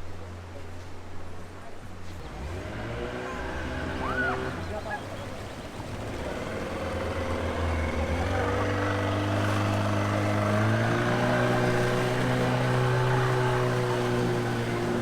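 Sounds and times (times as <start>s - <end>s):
motorboat engine speeding up: 2.0s - 15.0s.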